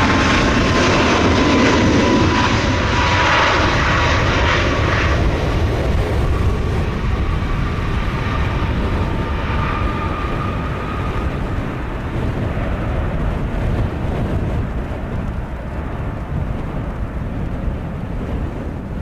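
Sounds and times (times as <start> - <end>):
jet engine fan whine: 0.0 - 19.0
jet engines roaring at takeoff: 0.0 - 19.0.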